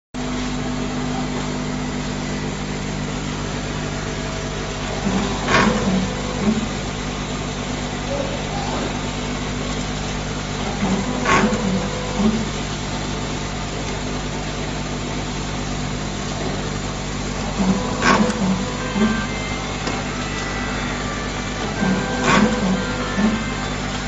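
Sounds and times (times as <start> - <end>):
machine humming: 0.2 - 24.0.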